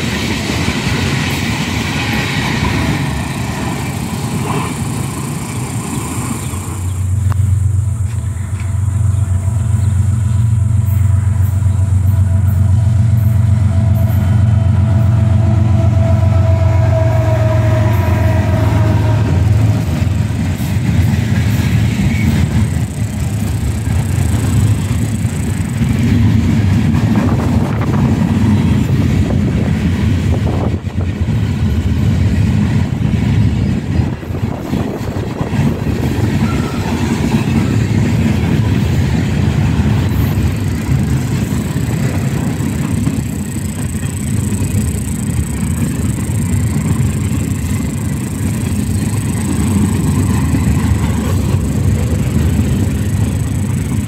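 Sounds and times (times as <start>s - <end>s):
diesel locomotive engine drone: 0.0s - 54.0s
freight cars rumbling on rail: 0.0s - 54.0s.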